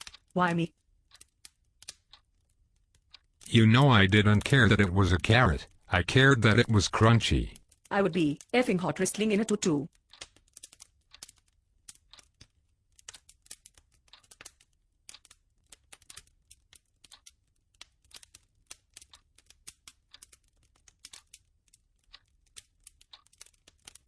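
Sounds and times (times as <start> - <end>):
faint crackling clicks: 0.0 - 24.0.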